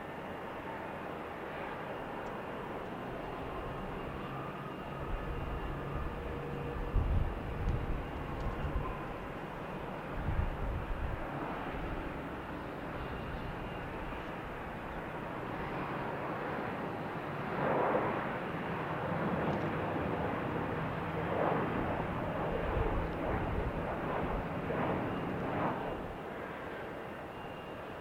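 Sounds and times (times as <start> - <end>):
airplane engine drone: 0.0 - 28.0.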